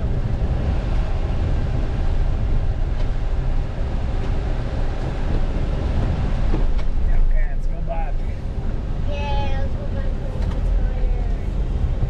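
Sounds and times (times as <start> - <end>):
low rumble of moving vehicle: 0.0 - 12.0.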